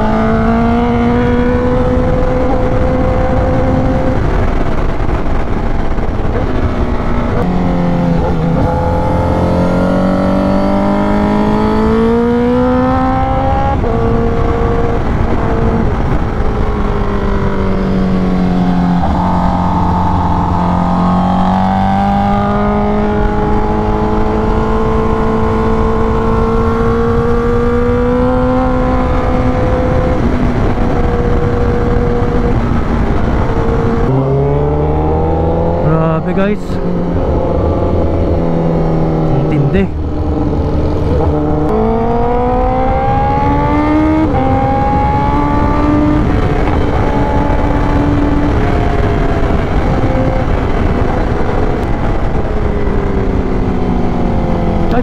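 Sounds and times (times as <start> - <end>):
motorcycle engine revving under load: 0.0 - 5.2, 5.8 - 55.0.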